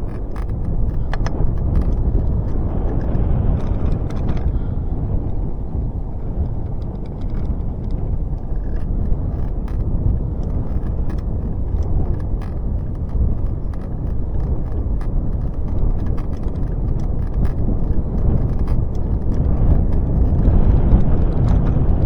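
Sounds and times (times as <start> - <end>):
bicycle clicks and rattles: 0.0 - 22.0
tyres rolling over path: 0.0 - 22.0
wind on microphone: 0.0 - 22.0.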